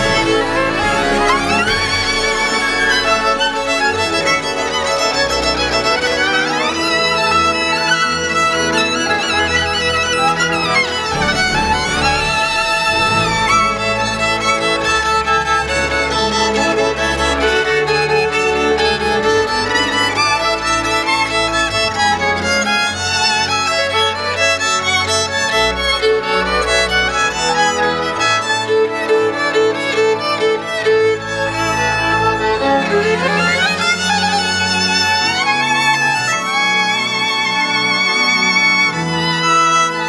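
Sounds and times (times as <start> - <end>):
violin music with accompaniment: 0.0 - 40.0.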